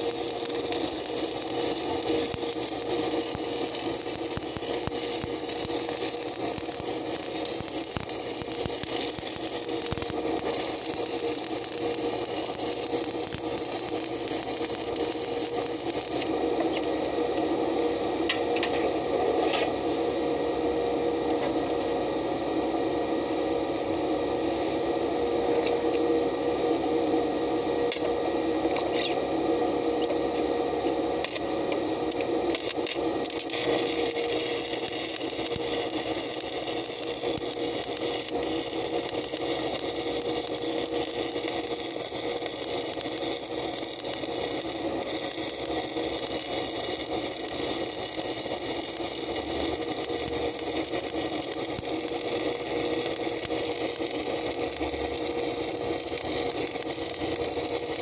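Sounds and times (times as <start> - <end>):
welding arc crackling hiss: 0.0 - 19.9, 31.2 - 58.0
welding machine hum: 0.0 - 58.0.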